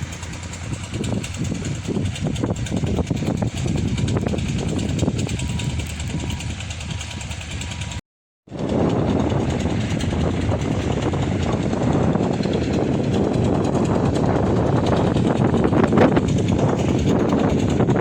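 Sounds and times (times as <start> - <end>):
engine driving suction pump: 0.0 - 18.0.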